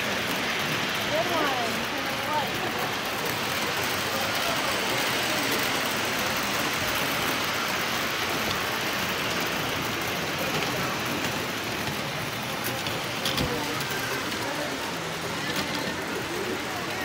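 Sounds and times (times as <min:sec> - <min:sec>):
toy train wheels rumbling on track: 0:00.0 - 0:17.0.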